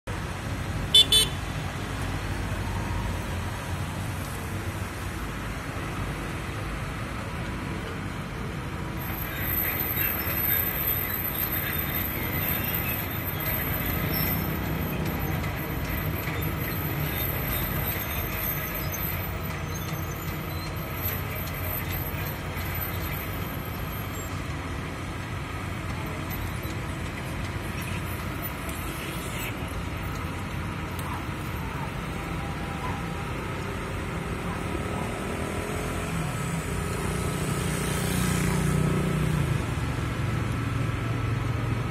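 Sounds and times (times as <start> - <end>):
diesel engine rumbling: 0.1 - 37.0.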